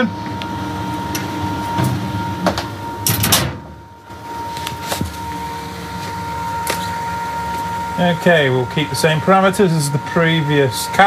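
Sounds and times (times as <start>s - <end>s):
machine hum with high whine: 0.0s - 11.0s.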